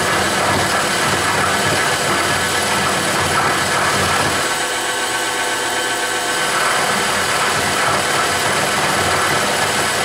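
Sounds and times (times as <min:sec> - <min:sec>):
bit cutting metal: 0:00.0 - 0:10.0
milling machine running: 0:00.0 - 0:10.0.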